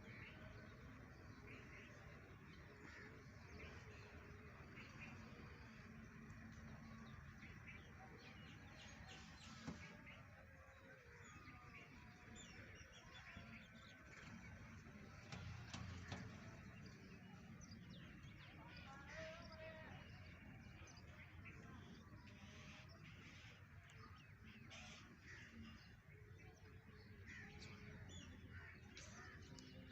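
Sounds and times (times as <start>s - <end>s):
faint birdsong chirps: 0.0s - 29.9s
low steady background rumble: 0.0s - 29.9s.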